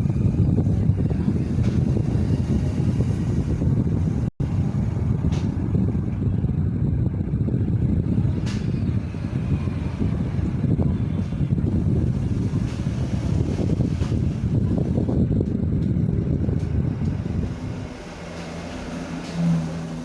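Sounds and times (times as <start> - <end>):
fan airflow buffeting microphone: 0.0 - 20.0.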